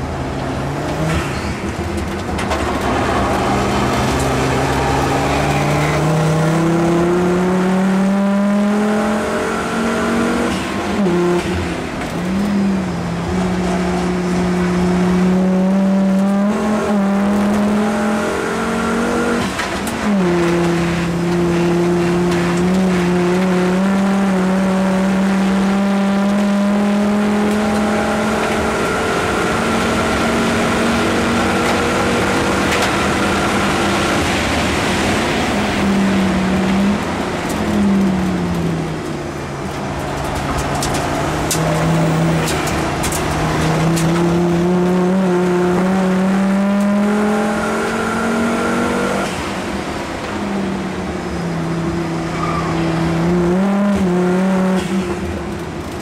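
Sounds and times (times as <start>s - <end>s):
racing car engine inside cabin: 0.0s - 56.0s.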